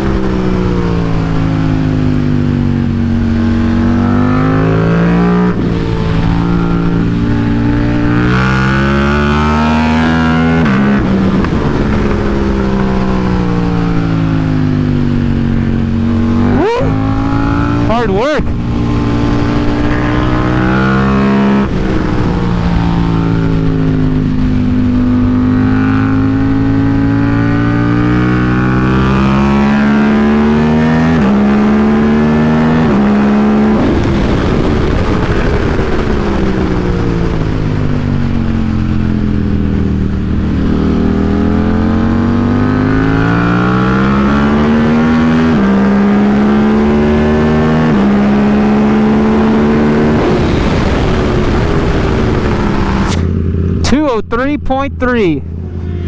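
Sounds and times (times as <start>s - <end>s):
race motorcycle engine at speed: 0.0s - 56.0s.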